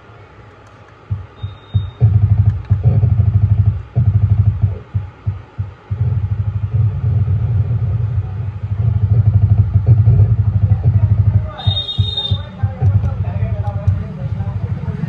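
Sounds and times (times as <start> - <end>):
heavy bass music from speaker: 1.0 - 15.0.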